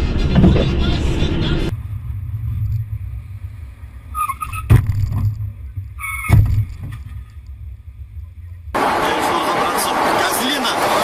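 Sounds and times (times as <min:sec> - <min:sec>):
moving car rumble: 0:00.0 - 0:11.0.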